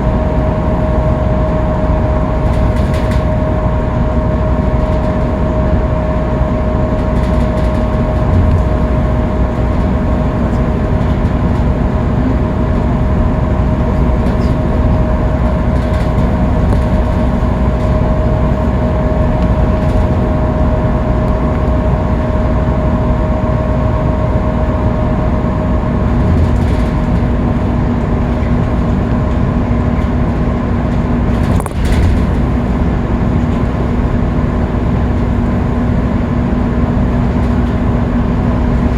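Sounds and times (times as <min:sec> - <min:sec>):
bus engine and road rumble: 0:00.0 - 0:38.9
constant whine: 0:00.0 - 0:38.9.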